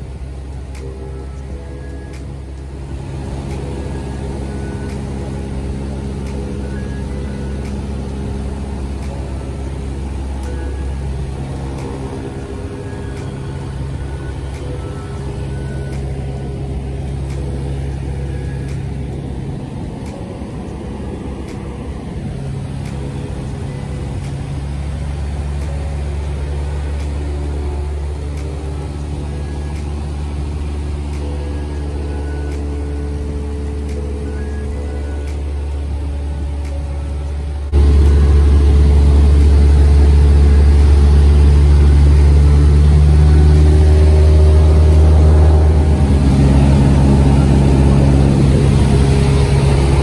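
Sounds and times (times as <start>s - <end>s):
light aircraft engine drone: 0.0s - 50.0s.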